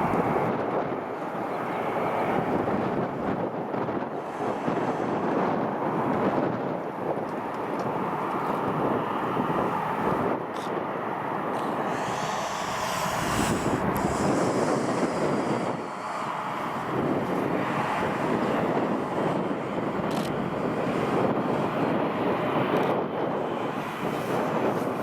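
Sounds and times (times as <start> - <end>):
jet engine rush: 0.0 - 20.0.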